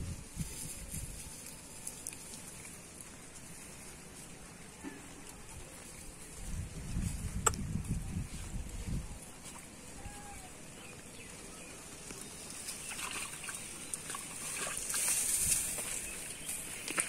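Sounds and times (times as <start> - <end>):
even outdoor hiss: 0.0 - 17.0.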